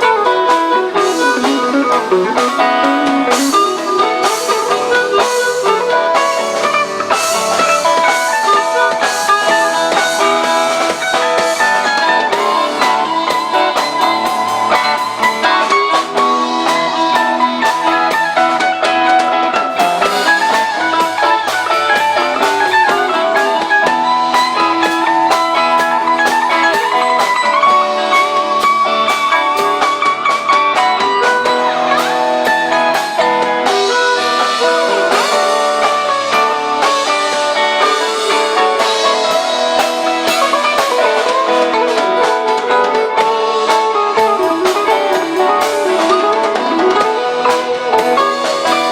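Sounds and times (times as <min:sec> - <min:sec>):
electric guitar notes bending: 0:00.0 - 0:48.9
rock band playing: 0:00.0 - 0:48.9.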